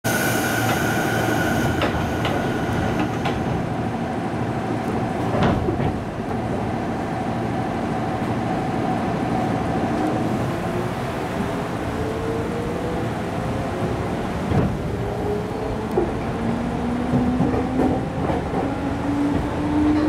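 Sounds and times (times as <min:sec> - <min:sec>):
train wheels rumbling on rails: 0:00.1 - 0:20.0.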